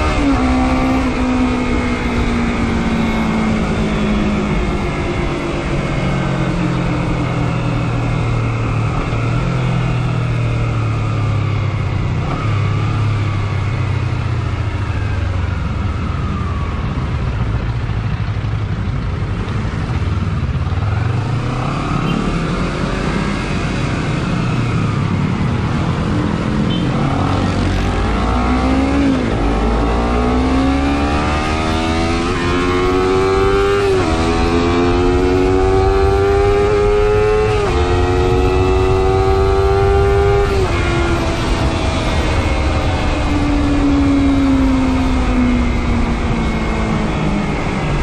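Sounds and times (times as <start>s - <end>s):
low wind rumble: 0.0s - 48.0s
motorcycle engine accelerating: 0.0s - 48.0s.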